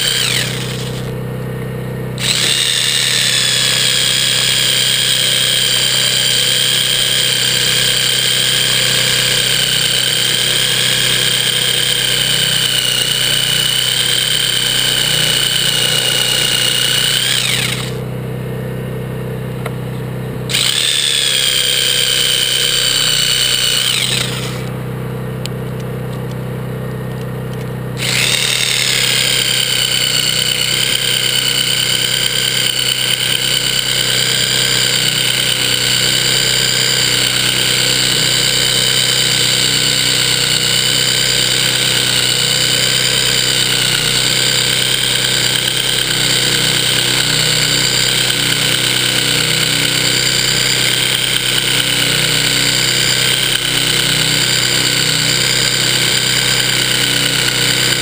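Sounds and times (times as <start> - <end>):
electric saw whining: 0.0 - 1.2, 2.1 - 18.2, 20.5 - 24.9, 28.0 - 58.0.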